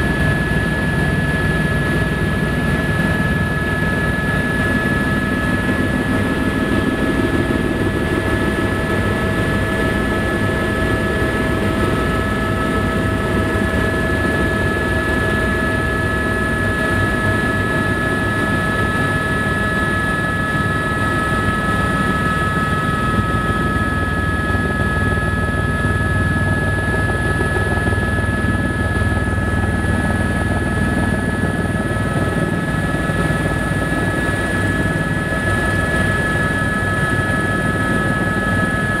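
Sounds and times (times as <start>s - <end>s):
helicopter engine and rotor noise: 0.0s - 39.0s.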